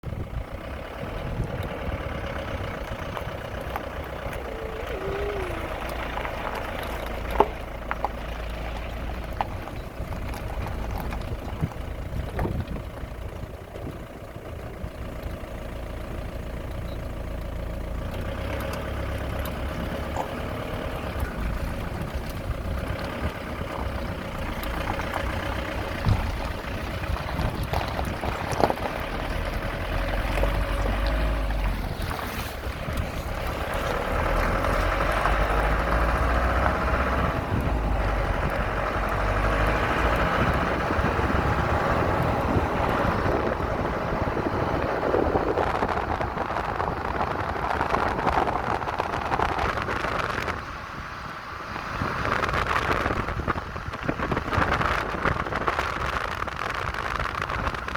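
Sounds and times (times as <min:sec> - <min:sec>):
engine running low rumble: 0:00.0 - 0:57.9.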